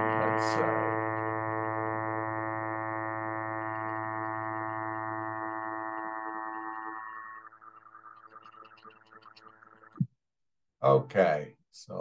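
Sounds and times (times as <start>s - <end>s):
low sawtooth test tone: 0.0s - 10.0s.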